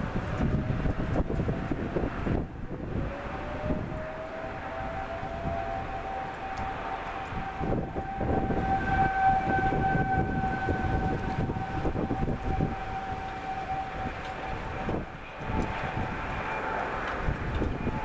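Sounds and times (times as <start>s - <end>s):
warning siren steady tone: 0.0s - 18.0s
wind buffeting microphone: 0.0s - 18.0s.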